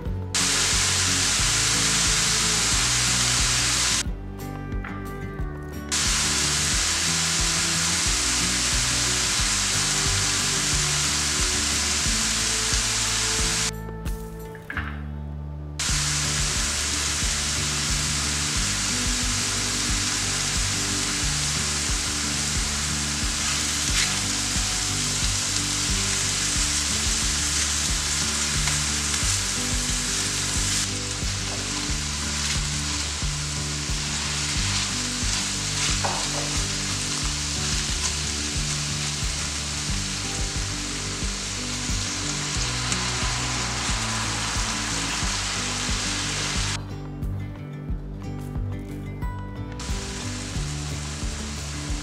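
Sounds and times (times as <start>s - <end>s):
mushrooms sizzling in skillet: 0.0s - 4.0s, 5.8s - 13.8s, 15.8s - 46.8s, 49.9s - 52.0s.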